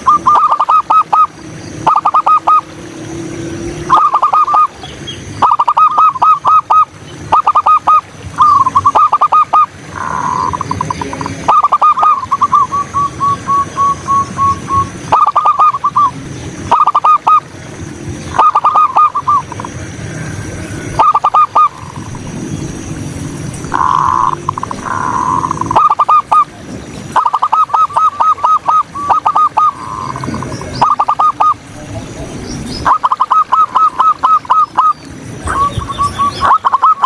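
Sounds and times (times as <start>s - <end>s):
dove cooing: 0.0s - 17.5s, 18.2s - 37.0s.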